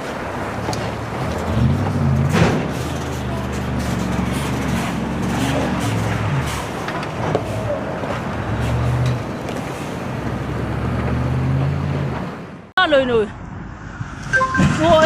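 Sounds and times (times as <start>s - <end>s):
vehicle engine drone: 0.0s - 12.7s
road noise: 0.0s - 15.0s.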